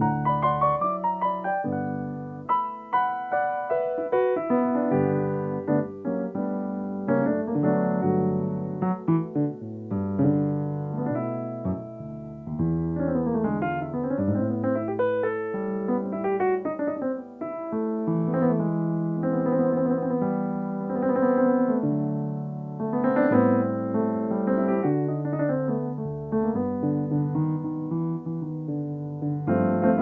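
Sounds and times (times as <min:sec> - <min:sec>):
solo piano playing: 0:00.0 - 0:30.0.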